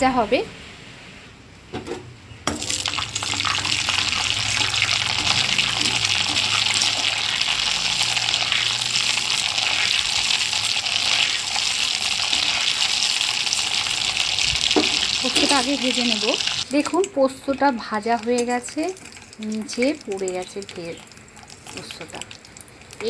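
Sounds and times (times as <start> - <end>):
seeds sizzling in hot oil: 2.5 - 23.0.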